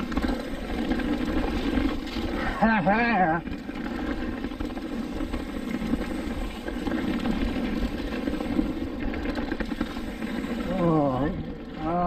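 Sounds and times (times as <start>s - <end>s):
bike rattling: 0.0s - 12.0s
tyres rolling over dirt and stones: 0.0s - 12.0s.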